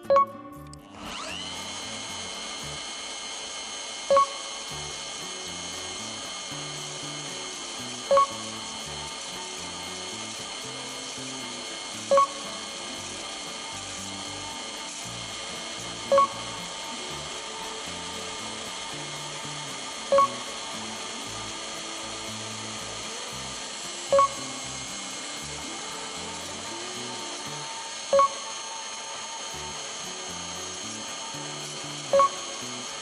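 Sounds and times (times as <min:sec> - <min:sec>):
background music: 0:00.0 - 0:03.1, 0:04.1 - 0:33.0
band saw cutting steel pipe: 0:00.9 - 0:33.0.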